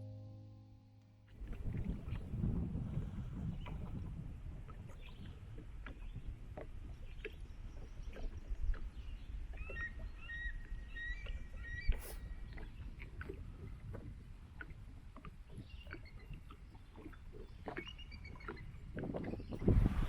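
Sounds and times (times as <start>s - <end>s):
paddle splashing water: 1.4s - 20.0s
wash of water and wind: 1.4s - 20.0s.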